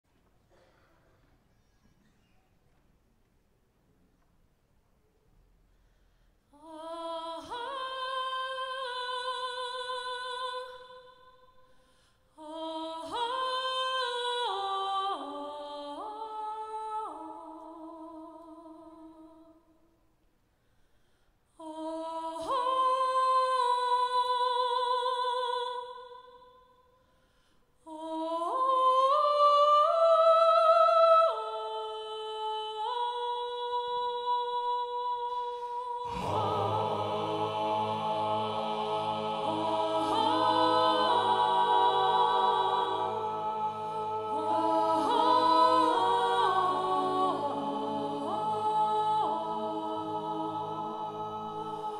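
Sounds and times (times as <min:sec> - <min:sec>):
a cappella group singing: 0:06.6 - 0:11.6, 0:12.3 - 0:19.7, 0:21.6 - 0:26.9, 0:27.8 - 0:51.9.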